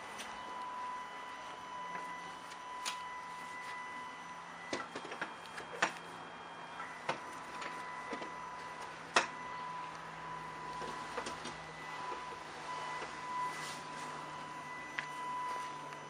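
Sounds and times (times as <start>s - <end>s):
stepper motor high whine: 0.0s - 16.0s.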